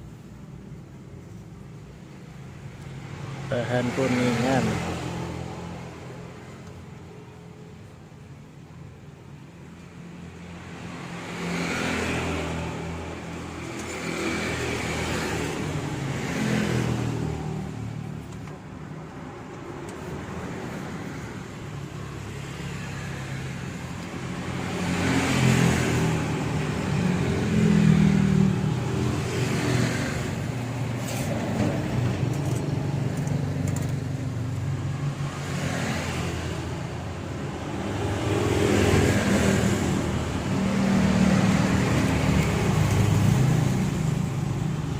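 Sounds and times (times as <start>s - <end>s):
vehicles passing: 0.0s - 44.9s.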